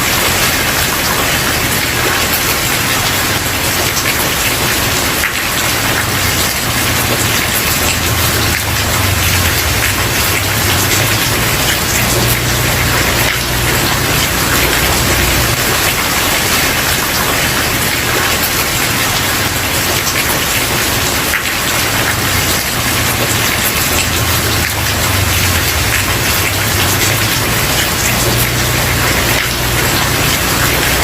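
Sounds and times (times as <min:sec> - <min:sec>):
rain on a wooden porch: 0:00.0 - 0:31.0.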